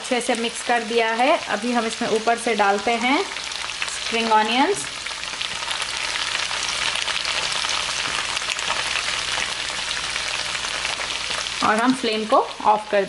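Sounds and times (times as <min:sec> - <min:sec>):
chicken sizzling in a wok: 0:00.0 - 0:13.0.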